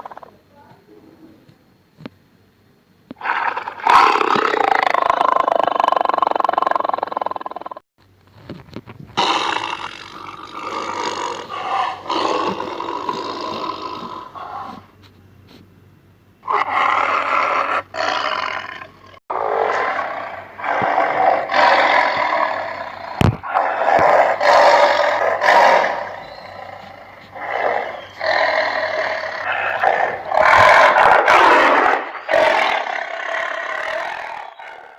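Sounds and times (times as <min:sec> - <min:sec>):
tiger roaring and growling: 0:03.2 - 0:07.8, 0:09.2 - 0:14.9, 0:16.4 - 0:34.9.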